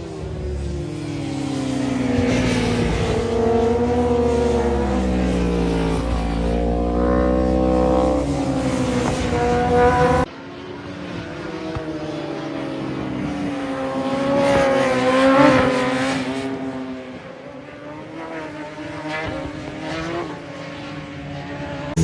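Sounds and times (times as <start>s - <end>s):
racing motorcycle engines revving: 0.0s - 22.0s.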